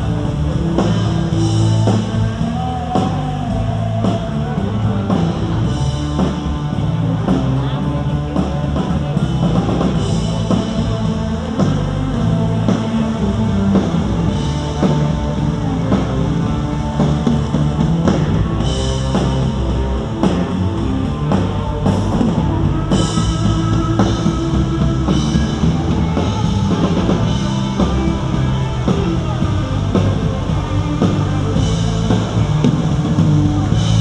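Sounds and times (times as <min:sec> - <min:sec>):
drum kit beat and cymbals: 0:00.0 - 0:34.0
rock band playing live: 0:00.0 - 0:34.0.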